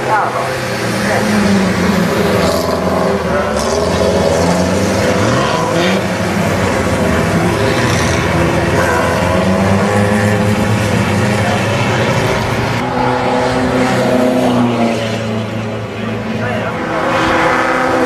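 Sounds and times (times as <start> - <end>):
racing car engines accelerating: 0.0 - 18.0.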